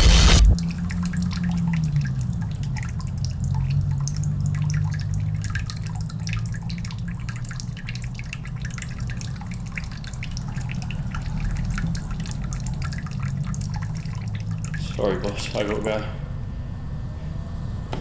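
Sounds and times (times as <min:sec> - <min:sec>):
low steady hum: 0:00.0 - 0:18.0
water dripping: 0:00.5 - 0:16.1.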